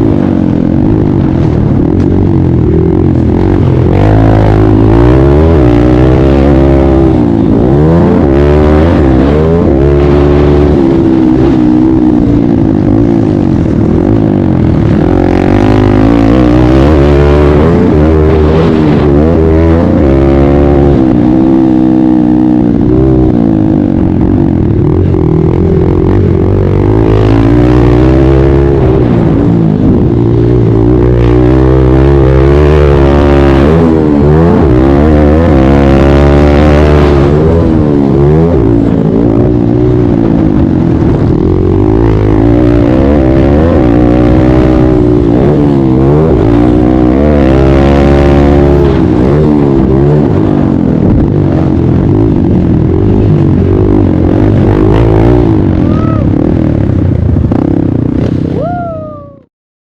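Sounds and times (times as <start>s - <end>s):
dirt bike engine racing: 0.0s - 59.5s
second motorcycle engine: 0.0s - 59.5s.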